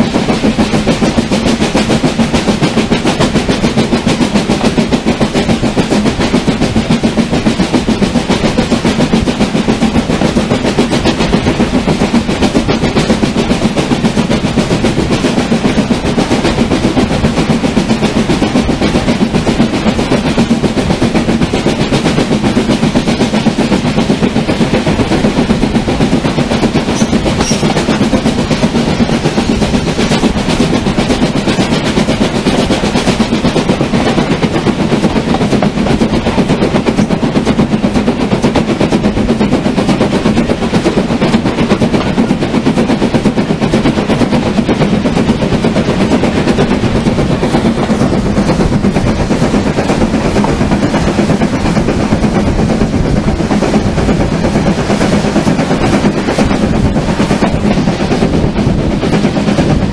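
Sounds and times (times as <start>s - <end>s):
steam train wheels clattering on rails: 0.0s - 59.9s
wind on microphone: 0.0s - 59.9s.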